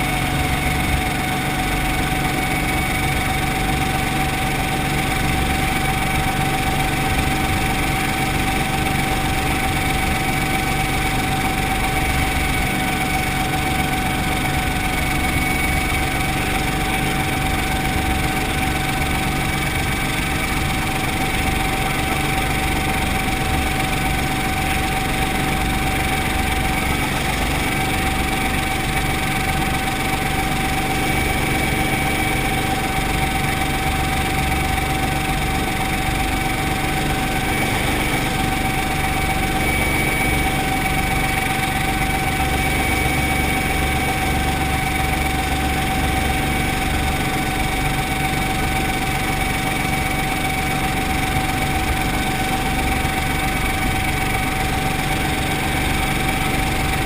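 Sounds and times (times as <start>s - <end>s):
helicopter engine drone: 0.0s - 57.0s
high rotor drive whine: 0.0s - 57.0s.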